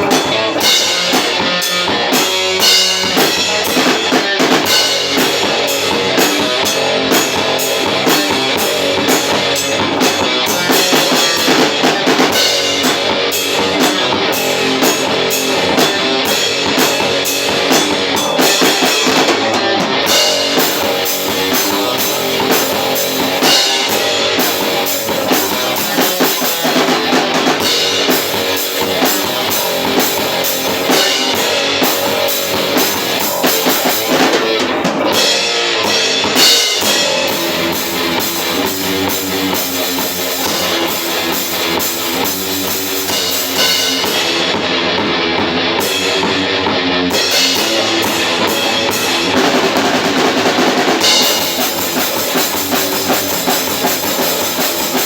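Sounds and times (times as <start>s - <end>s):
distorted electric guitars: 0.0s - 55.0s
drum kit with cymbals: 0.0s - 55.0s.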